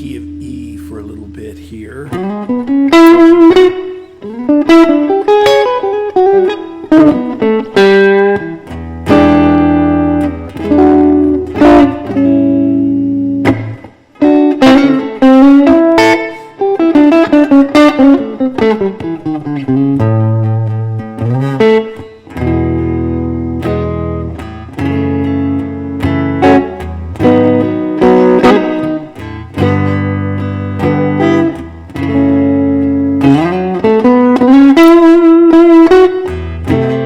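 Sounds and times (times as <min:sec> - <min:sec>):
electric guitar playing blues: 0:00.0 - 0:37.0.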